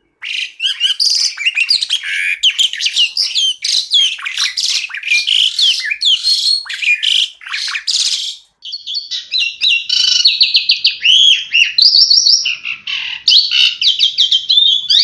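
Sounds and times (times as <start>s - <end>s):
starling singing varied song: 0.0s - 15.0s.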